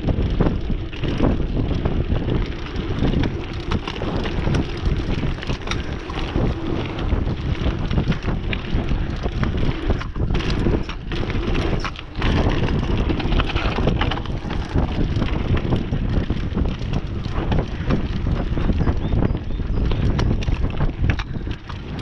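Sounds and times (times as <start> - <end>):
bike knocks and rattles: 0.0 - 22.0
bike tyres rolling over dirt: 0.0 - 22.0
wind buffeting microphone: 0.0 - 22.0.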